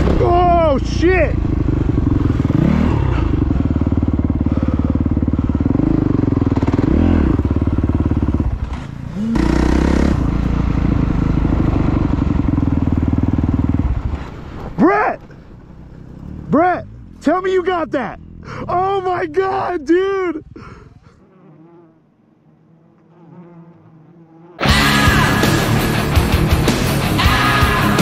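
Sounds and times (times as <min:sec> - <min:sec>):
dirt bike engine revving: 0:00.0 - 0:20.8, 0:24.6 - 0:28.0.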